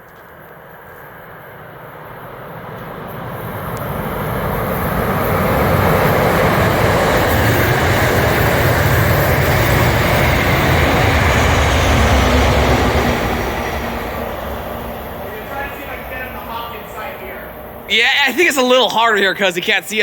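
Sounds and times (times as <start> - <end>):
train passing at speed: 0.0 - 20.0.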